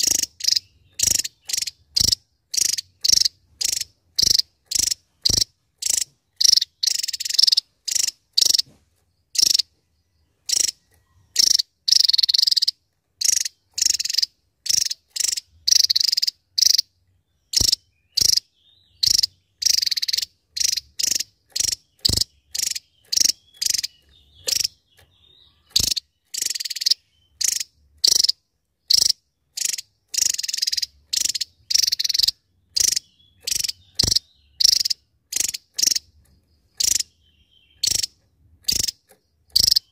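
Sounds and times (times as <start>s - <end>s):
bird singing high sharp notes: 0.0s - 8.7s, 10.5s - 39.9s.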